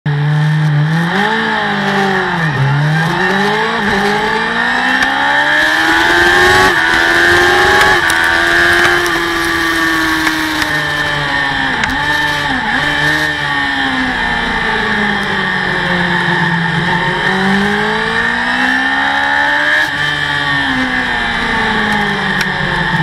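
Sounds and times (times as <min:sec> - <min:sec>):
motorcycle engine accelerating: 0:00.1 - 0:23.0.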